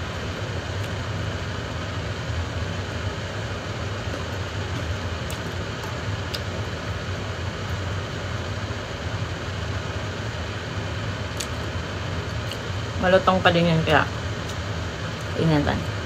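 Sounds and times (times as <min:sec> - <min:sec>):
mechanical hum and hiss: 0:00.0 - 0:16.0.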